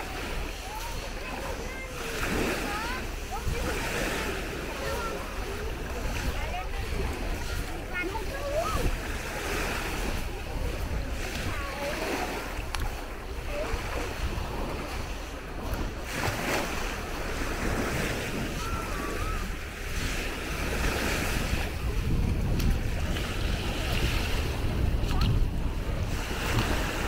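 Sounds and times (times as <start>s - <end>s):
small waves washing onto sand: 0.0s - 27.0s
wind rumbling on microphone: 0.0s - 27.0s.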